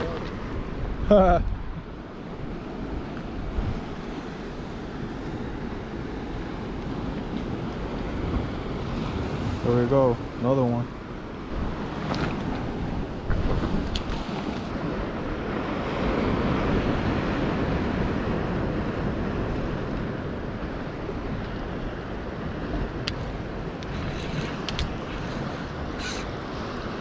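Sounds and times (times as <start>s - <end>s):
surf washing against rocks: 0.0s - 27.0s
wind buffeting microphone: 0.0s - 27.0s.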